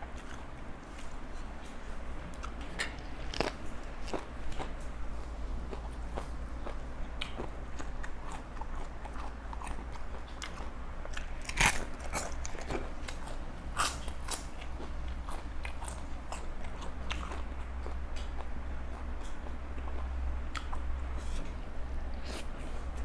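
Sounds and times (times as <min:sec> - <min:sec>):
person chewing crunchy food: 0:00.0 - 0:23.0.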